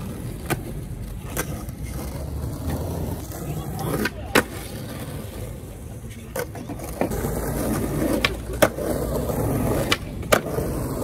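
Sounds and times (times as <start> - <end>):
skateboard clacking on pavement: 0.0 - 11.0
skateboard wheels rolling on stone: 0.0 - 11.0.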